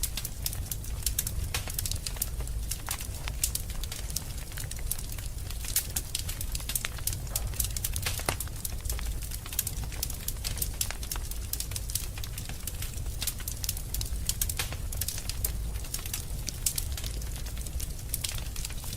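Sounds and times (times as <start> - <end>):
fireplace fire crackling: 0.0 - 18.9.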